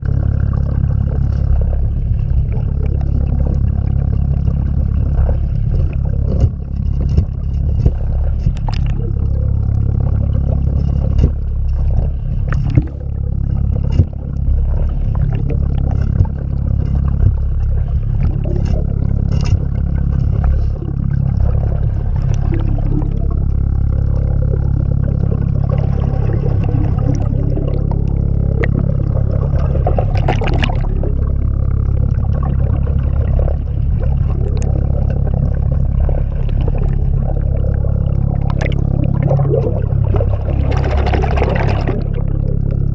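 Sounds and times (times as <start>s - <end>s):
low hum: 0.0s - 42.9s.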